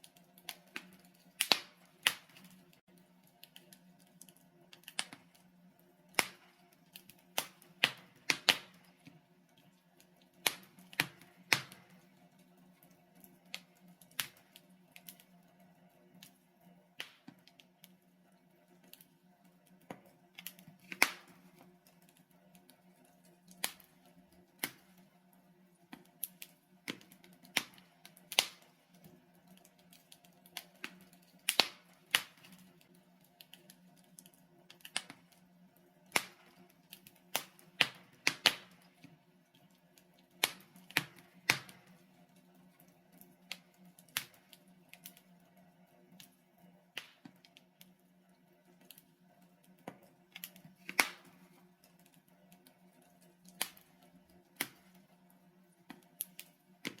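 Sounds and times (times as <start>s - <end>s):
sharp pops and snaps: 0.0s - 12.4s, 13.2s - 15.3s, 17.0s - 18.0s, 18.8s - 22.8s, 23.5s - 25.0s, 25.9s - 35.4s, 36.1s - 42.0s, 43.1s - 45.2s, 46.2s - 47.9s, 49.6s - 52.7s, 53.4s - 55.0s, 55.8s - 57.0s
wood fire crackling: 0.0s - 57.0s.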